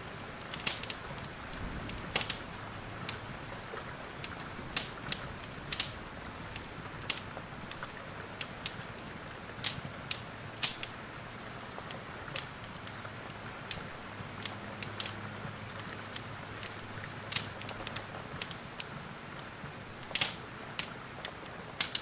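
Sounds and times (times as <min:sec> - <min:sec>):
wood fire crackling and popping: 0:00.3 - 0:22.0.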